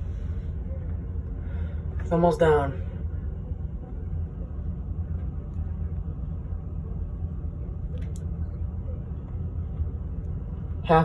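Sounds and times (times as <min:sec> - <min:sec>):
ship engine low rumble: 0:00.0 - 0:11.0.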